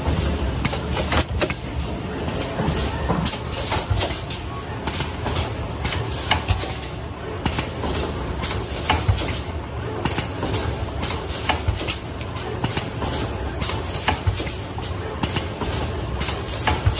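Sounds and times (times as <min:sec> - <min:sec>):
machine parts clicking and clacking: 0:00.0 - 0:16.9.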